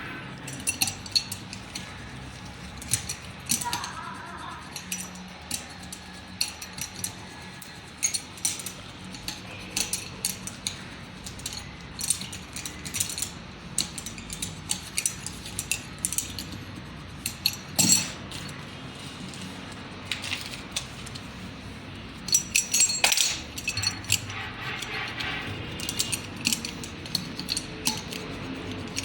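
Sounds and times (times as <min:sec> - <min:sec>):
metal tools scraping: 0:00.0 - 0:29.0
metal hand tools clicking: 0:00.4 - 0:18.6, 0:22.2 - 0:29.0.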